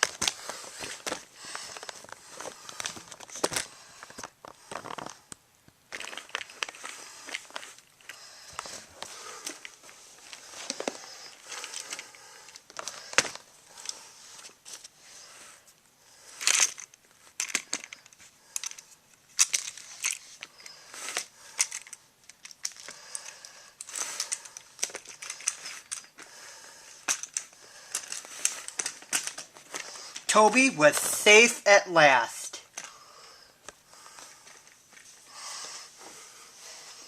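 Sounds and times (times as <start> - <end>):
crinkling and rustling: 0.0 - 31.4, 32.6 - 37.0.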